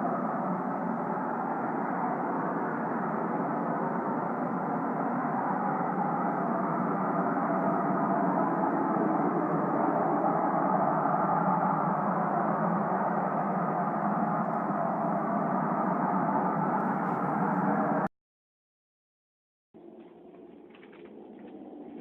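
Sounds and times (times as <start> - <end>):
loud layered droning hum: 0.0 - 18.1.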